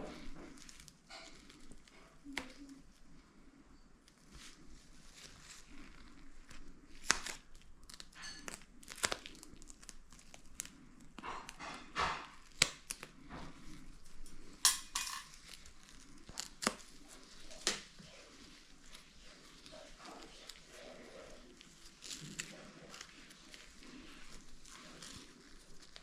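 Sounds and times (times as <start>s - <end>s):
material tearing and crinkling: 0.0s - 3.1s, 4.1s - 14.7s, 15.3s - 26.0s.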